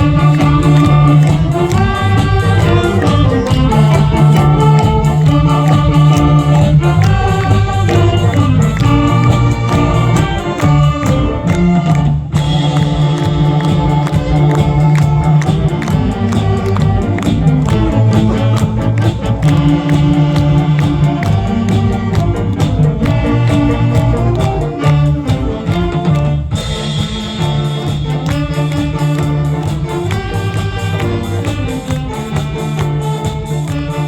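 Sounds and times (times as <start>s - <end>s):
saxophone horn melody: 0.0s - 34.0s
steady drum beat: 0.0s - 34.0s.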